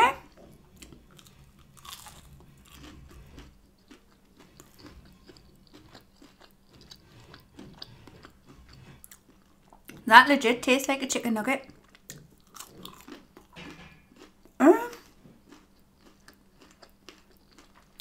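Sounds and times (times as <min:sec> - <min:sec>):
person chewing crunchy food: 0:00.1 - 0:10.1, 0:11.6 - 0:18.0.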